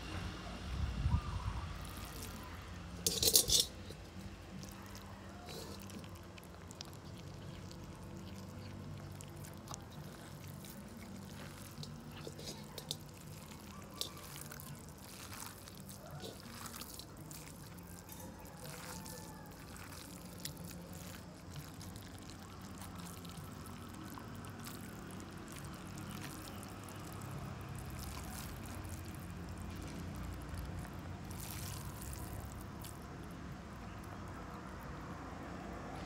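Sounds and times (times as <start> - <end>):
kitten chewing and licking: 3.2 - 35.9.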